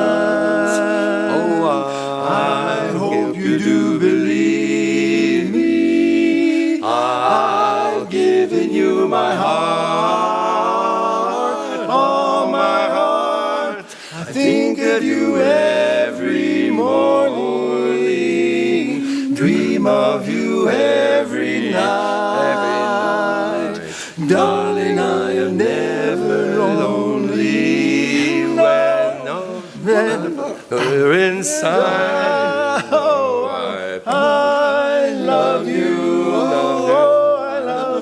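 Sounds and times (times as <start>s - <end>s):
barbershop quartet singing a cappella: 0.0s - 38.0s.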